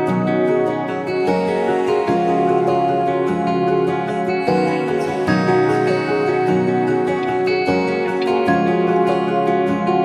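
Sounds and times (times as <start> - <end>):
instrumental music with sustained chords: 0.0 - 10.0.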